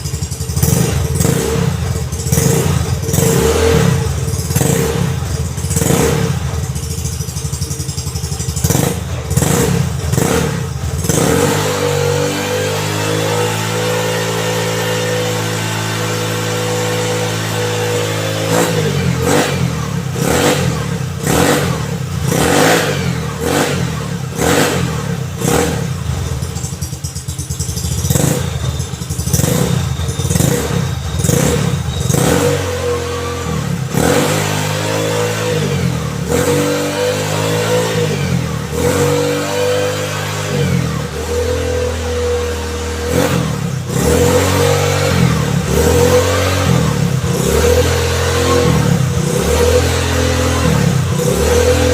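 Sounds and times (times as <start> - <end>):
scooter engine revving: 0.0 - 51.9.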